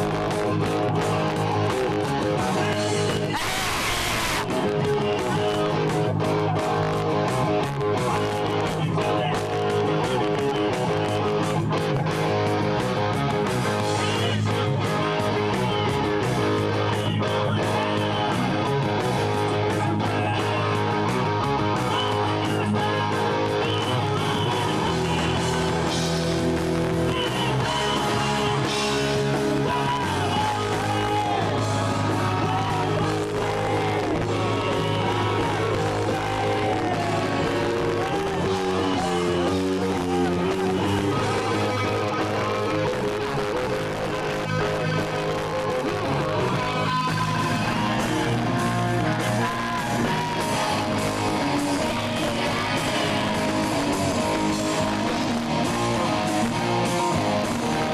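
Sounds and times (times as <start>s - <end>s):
rock band playing live: 0.0s - 57.9s
singing or wavering guitar lead: 0.0s - 57.9s.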